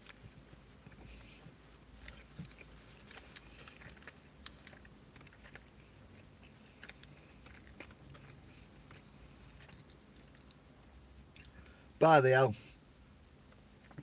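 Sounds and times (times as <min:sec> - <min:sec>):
man chewing food: 0:00.0 - 0:11.9, 0:13.4 - 0:14.0.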